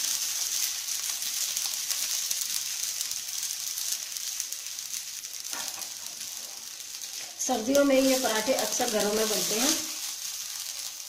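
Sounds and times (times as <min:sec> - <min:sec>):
flatbread sizzling on a griddle: 0:00.0 - 0:11.0.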